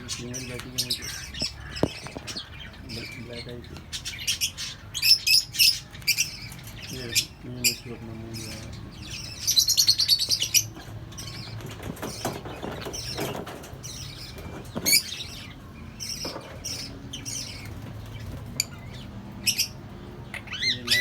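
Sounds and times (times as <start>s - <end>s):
birds chattering: 0.0s - 21.0s.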